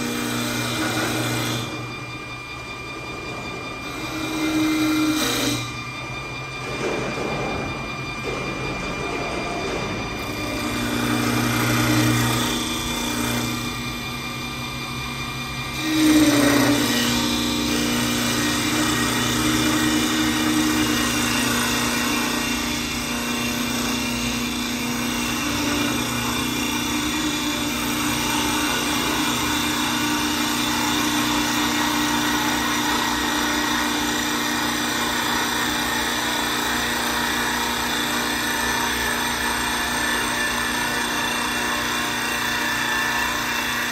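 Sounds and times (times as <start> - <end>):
cutter shaving spinning wood: 0.0 - 7.0, 8.1 - 43.9
wood lathe motor whine: 0.0 - 43.9.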